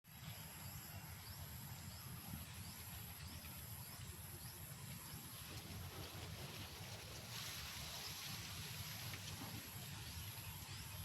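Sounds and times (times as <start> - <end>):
wind rumble on microphone: 0.2 - 11.0.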